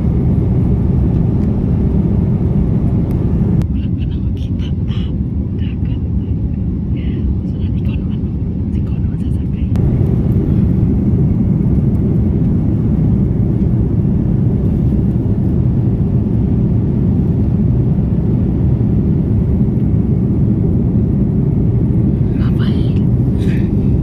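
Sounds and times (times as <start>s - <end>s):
airliner cabin engine drone: 0.0s - 24.0s.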